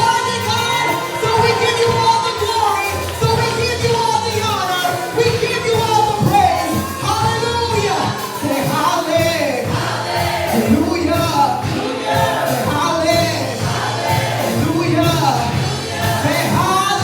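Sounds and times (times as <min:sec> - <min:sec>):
gospel voices singing: 0:00.0 - 0:17.0.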